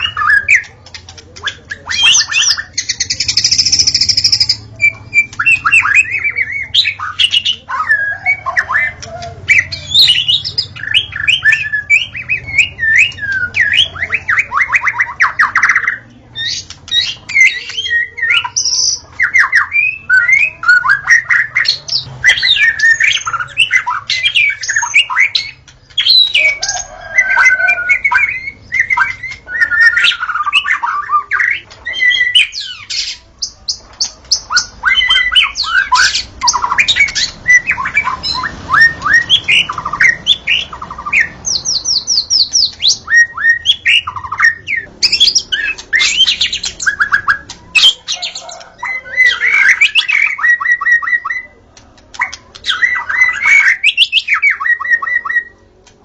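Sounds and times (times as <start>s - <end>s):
bird singing whistles and trills: 1.4s - 55.6s.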